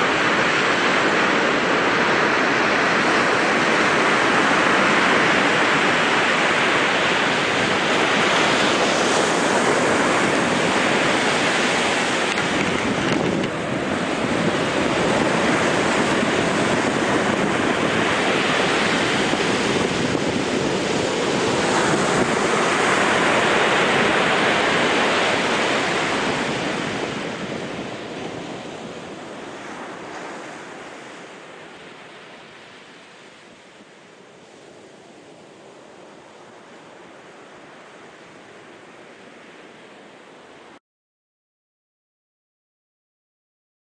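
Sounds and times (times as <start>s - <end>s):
surf washing onto shore: 0.0s - 40.8s
wind on microphone: 0.0s - 40.8s.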